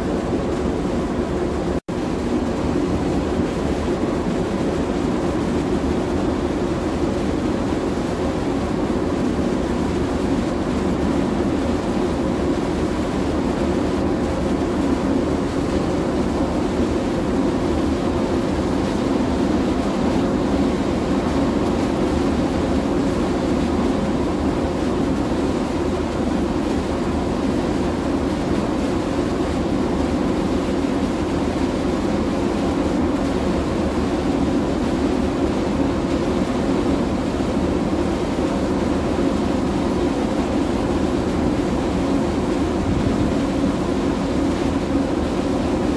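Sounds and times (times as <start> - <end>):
ship machinery low rumble: 0.0 - 45.9.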